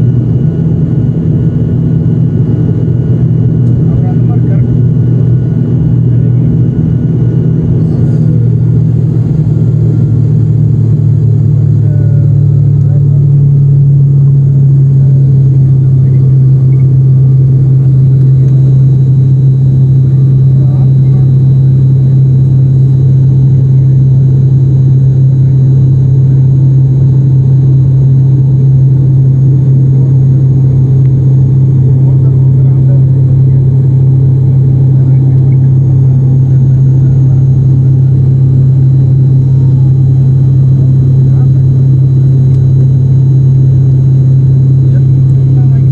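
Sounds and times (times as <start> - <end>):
airliner cabin low rumble: 0.0 - 45.9
faint thin whine: 0.0 - 45.9
propeller plane engine droning: 0.0 - 45.9.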